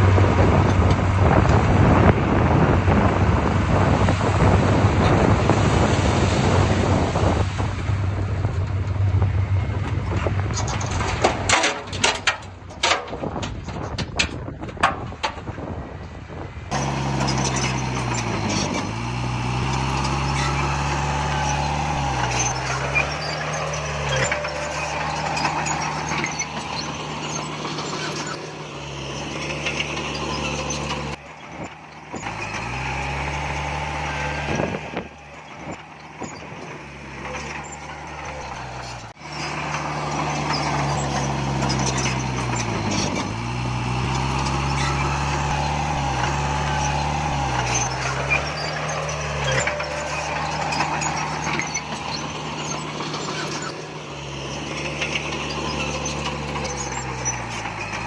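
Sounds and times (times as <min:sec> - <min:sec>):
heavy diesel machine engine: 0:00.0 - 0:58.0.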